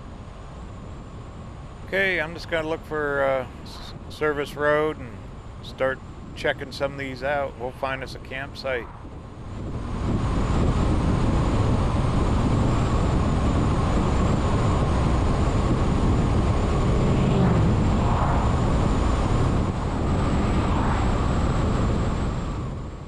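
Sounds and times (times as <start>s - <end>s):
vehicle road noise at highway speed: 0.0s - 23.0s.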